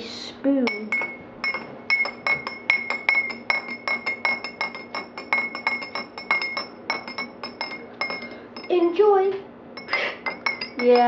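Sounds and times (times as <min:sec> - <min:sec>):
metal spoon clinking in glass: 0:00.7 - 0:09.1, 0:09.8 - 0:11.0.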